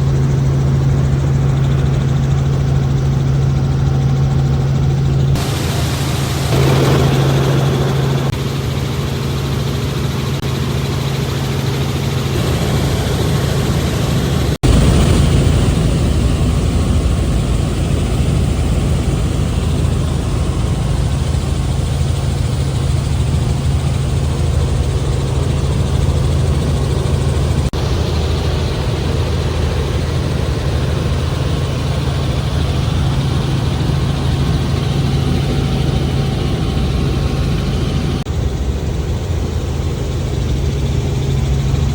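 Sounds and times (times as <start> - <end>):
helicopter cabin drone: 0.0 - 41.9.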